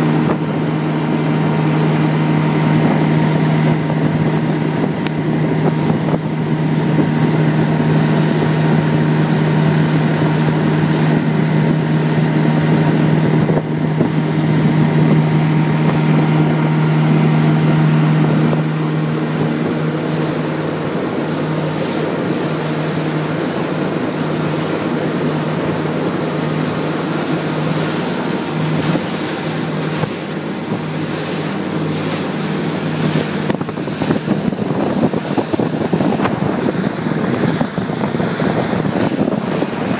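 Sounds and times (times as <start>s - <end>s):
outboard engine running: 0.0s - 39.9s
water noise from hull: 0.0s - 39.9s
wind on microphone: 0.0s - 39.9s.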